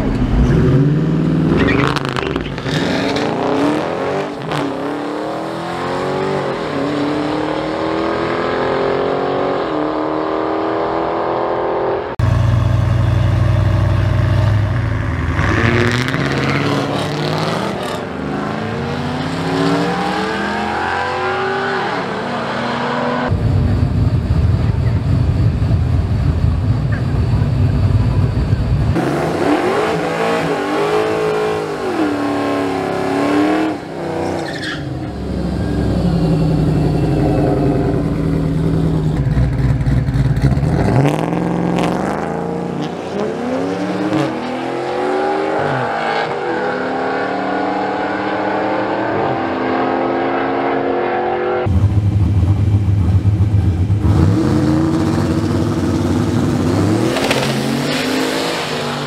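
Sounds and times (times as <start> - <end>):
car engines revving and accelerating: 0.0 - 59.0.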